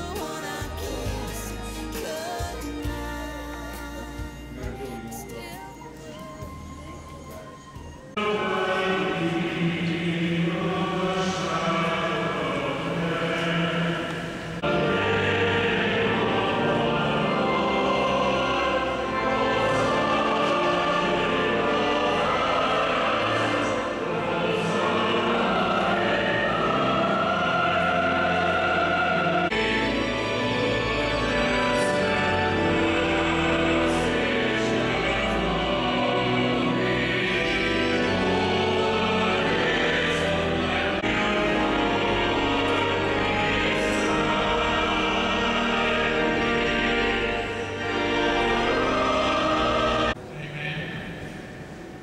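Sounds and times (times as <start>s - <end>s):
choir singing held notes: 0.0s - 52.0s.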